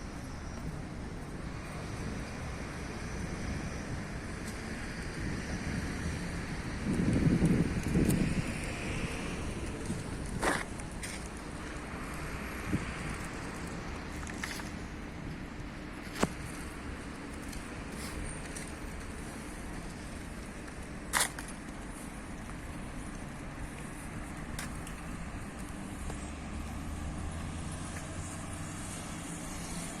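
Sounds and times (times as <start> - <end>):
low engine hum: 0.0 - 30.0
road traffic noise: 0.0 - 30.0.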